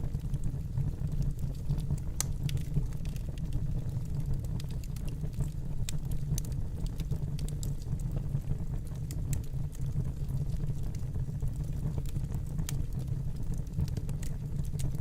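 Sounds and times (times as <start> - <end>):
fire crackling in fireplace: 0.0 - 15.0.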